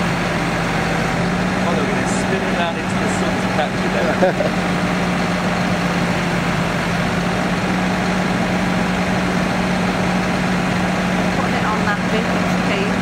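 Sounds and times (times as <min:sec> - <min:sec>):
lorry diesel engine humming: 0:00.0 - 0:13.0.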